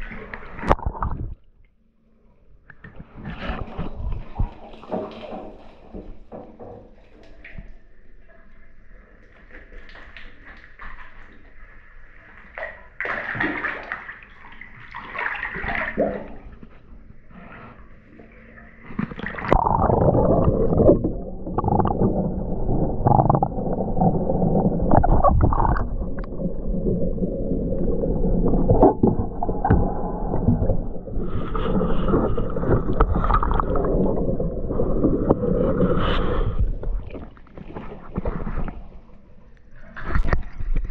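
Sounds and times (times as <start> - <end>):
muffled underwater sloshing: 2.9 - 40.9.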